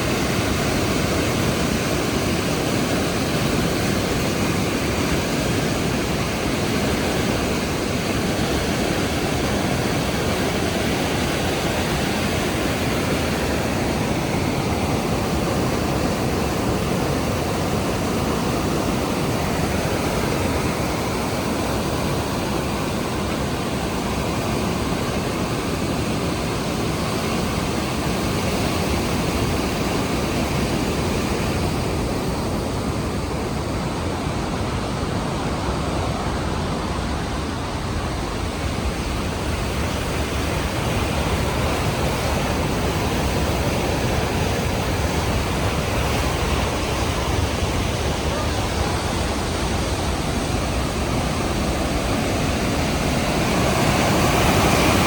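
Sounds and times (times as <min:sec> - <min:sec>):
large waterfall pouring: 0:00.0 - 0:55.0.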